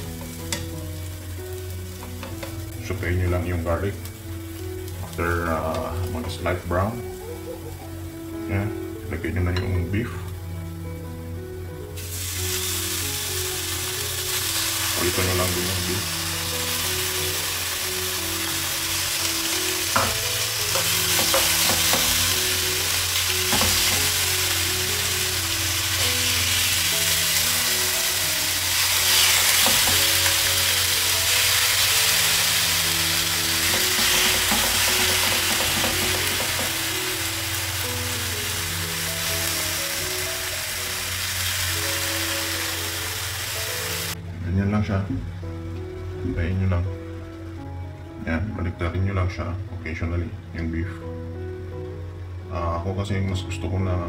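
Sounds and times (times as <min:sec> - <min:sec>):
beef sizzling in frying pan: 0:00.0 - 0:44.2.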